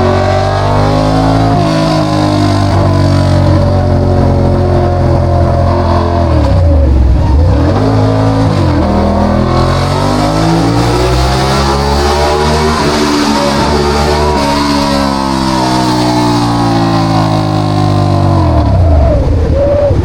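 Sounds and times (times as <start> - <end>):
loud motorcycle engine revving: 0.0 - 20.0.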